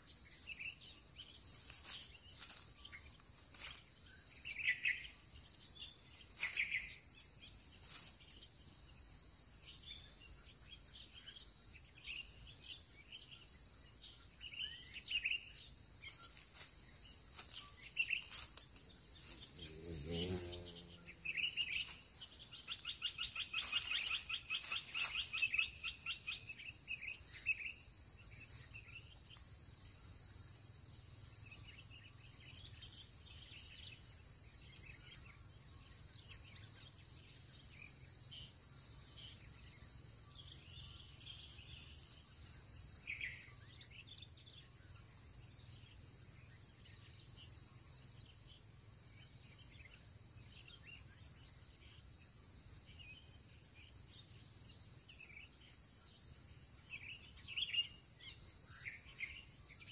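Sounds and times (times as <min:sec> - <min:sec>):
pulsing insect trill: 0:00.0 - 0:59.9.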